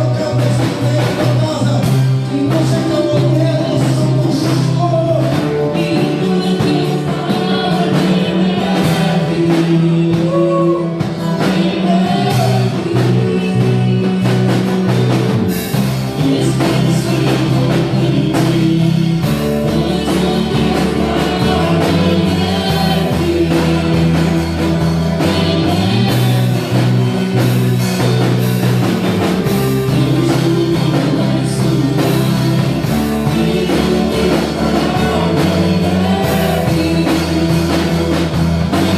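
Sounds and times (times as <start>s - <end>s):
person singing: 0.0s - 38.9s
worship band playing: 0.0s - 38.9s.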